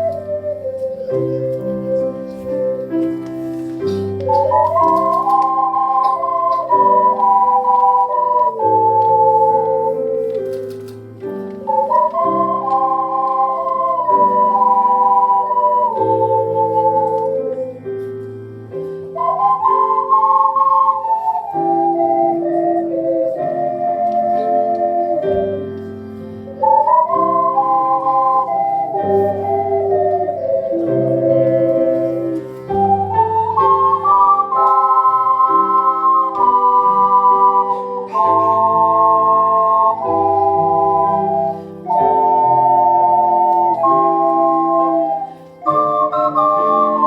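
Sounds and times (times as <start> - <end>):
slow organ music: 0.0 - 47.0.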